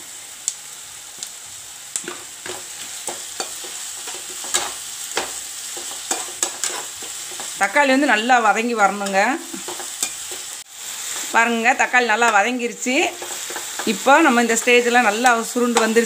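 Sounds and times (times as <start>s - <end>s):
vegetables sizzling in oil: 0.0s - 16.0s
spatula scraping pan: 2.0s - 16.0s.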